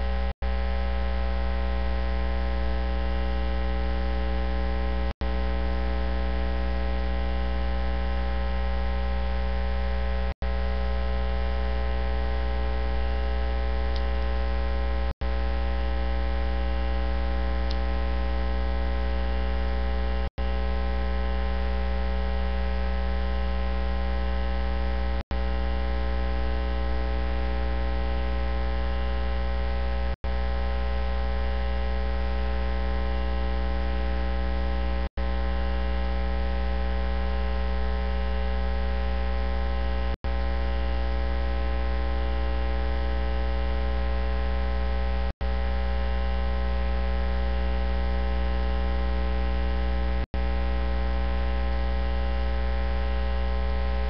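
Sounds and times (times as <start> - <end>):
loud electrical hum: 0.0 - 54.0.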